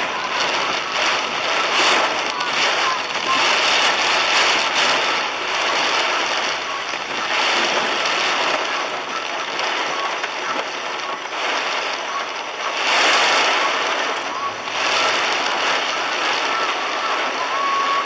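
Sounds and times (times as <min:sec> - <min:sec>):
heavy rain drumming on car: 0:00.0 - 0:18.0.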